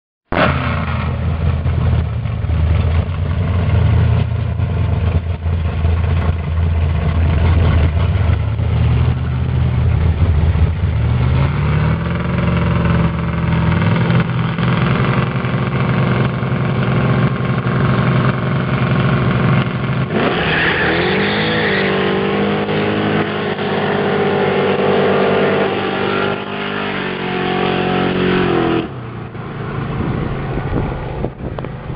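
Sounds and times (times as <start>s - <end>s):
muscle car engines revving: 0.3s - 31.9s.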